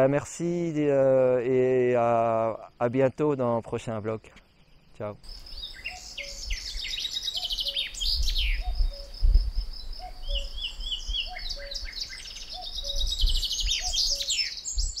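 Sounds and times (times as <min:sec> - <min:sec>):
birds trilling and chirping: 0:02.9 - 0:15.0.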